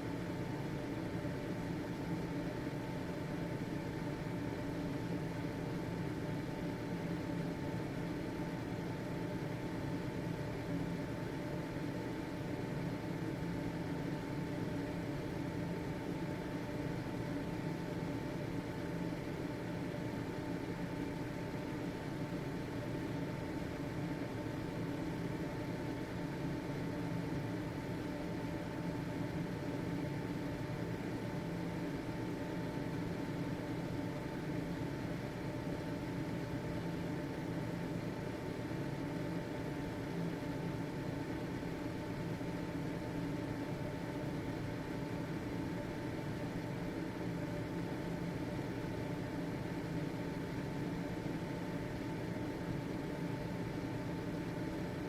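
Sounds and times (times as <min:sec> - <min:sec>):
faint steady whine: 0:00.0 - 0:55.0
ventilation fan whirring: 0:00.0 - 0:55.0.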